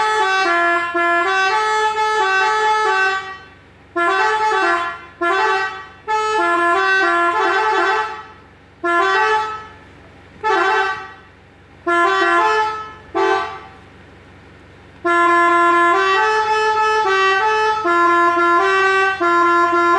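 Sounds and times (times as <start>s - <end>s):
melodic horn honking: 0.0s - 13.9s, 15.0s - 19.9s.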